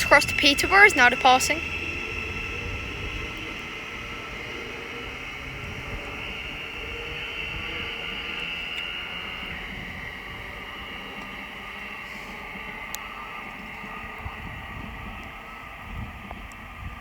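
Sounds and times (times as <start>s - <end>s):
electric train whine: 0.0s - 17.0s
low train rumble: 0.0s - 17.0s.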